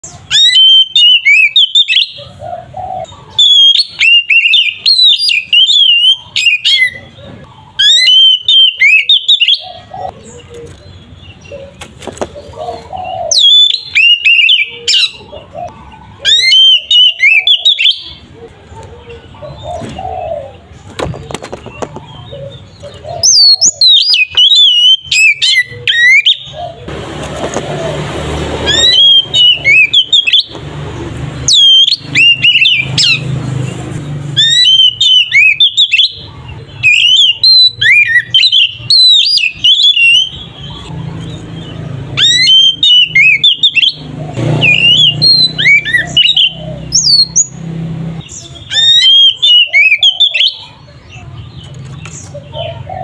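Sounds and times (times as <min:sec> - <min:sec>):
magpie-robin whistled song: 0:00.0 - 0:02.4, 0:03.0 - 0:11.8, 0:12.4 - 0:15.5, 0:16.1 - 0:18.3, 0:21.7 - 0:26.8, 0:28.6 - 0:30.6, 0:31.4 - 0:33.3, 0:34.2 - 0:47.6, 0:48.2 - 0:53.0.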